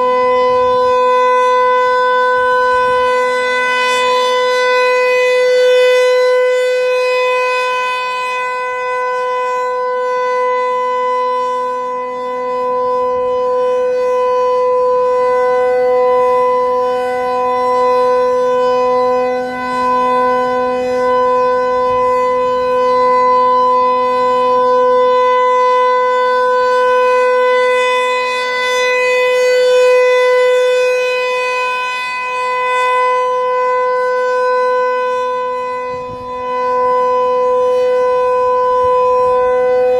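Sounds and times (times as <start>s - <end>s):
single-tone siren: 0.0s - 39.9s.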